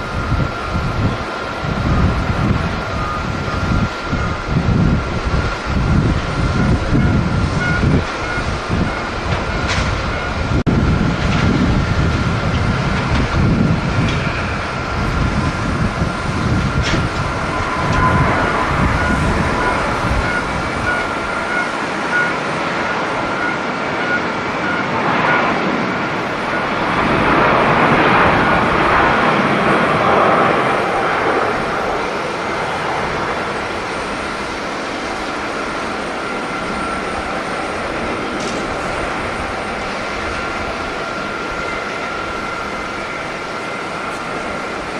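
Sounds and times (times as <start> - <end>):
jet engine whine: 0.0 - 44.9
jet noise rush: 0.0 - 44.9
low gusting rumble: 0.0 - 44.9.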